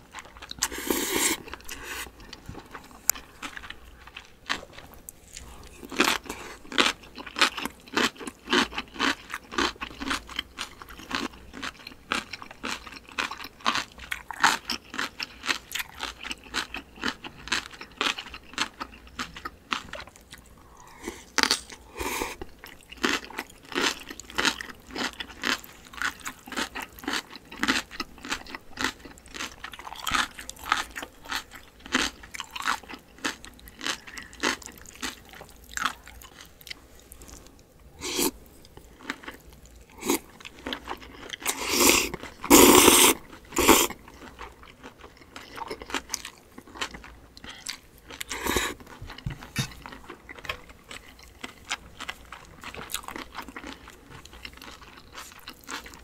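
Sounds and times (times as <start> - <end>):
chewing crunchy food: 0.0 - 56.0.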